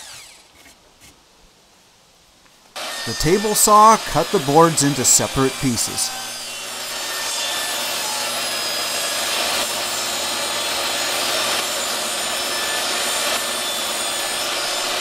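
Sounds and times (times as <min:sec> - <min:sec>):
table saw cutting wood: 0:00.0 - 0:00.4, 0:02.8 - 0:15.0.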